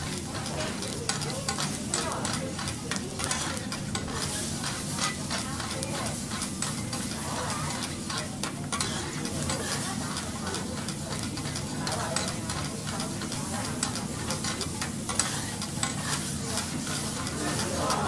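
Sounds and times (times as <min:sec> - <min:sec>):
garlic sizzling in oil: 0:00.0 - 0:18.0
metal spatulas scraping griddle: 0:00.0 - 0:18.0.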